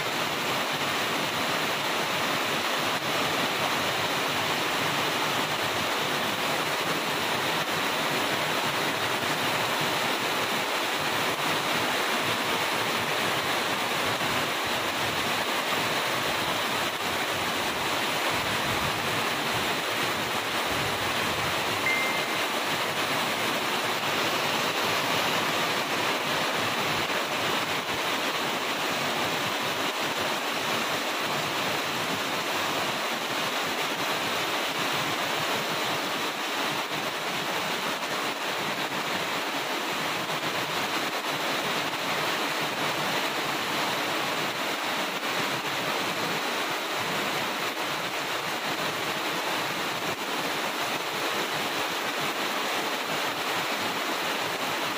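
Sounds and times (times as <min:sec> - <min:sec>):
heavy rain on leaves: 0:00.0 - 0:54.9.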